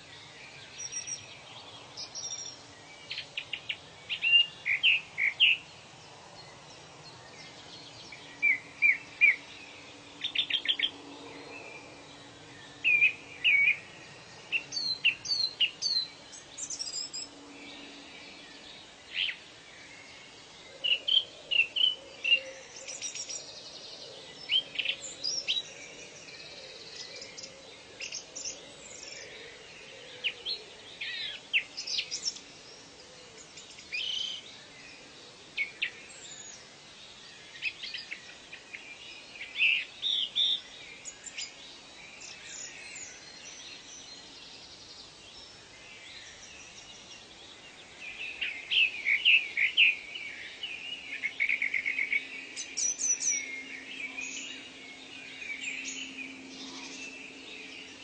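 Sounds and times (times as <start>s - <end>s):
wild birds chirping and calling: 0.0s - 58.0s.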